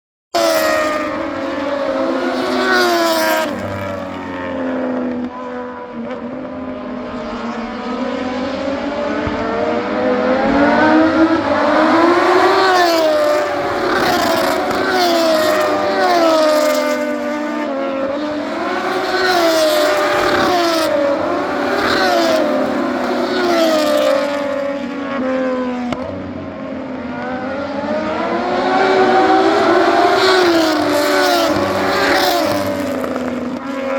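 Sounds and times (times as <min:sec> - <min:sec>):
racing motorcycle engines revving: 0:00.4 - 0:33.9.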